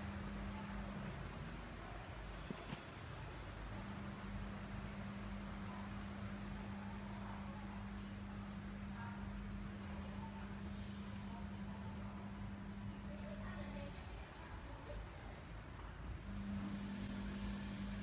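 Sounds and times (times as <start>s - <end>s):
crickets trilling: 0.0s - 18.0s
low electrical hum: 0.0s - 18.0s.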